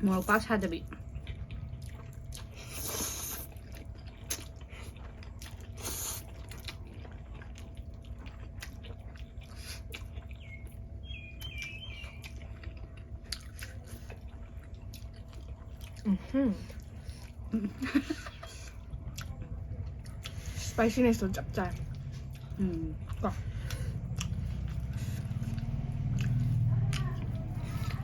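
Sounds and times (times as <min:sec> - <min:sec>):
chewing with wet mouth clicks: 0:00.1 - 0:28.0.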